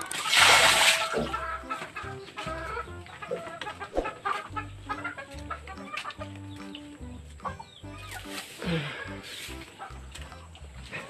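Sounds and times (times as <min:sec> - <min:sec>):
background music with low notes: 0:00.0 - 0:11.0
chickens clucking: 0:00.0 - 0:11.0.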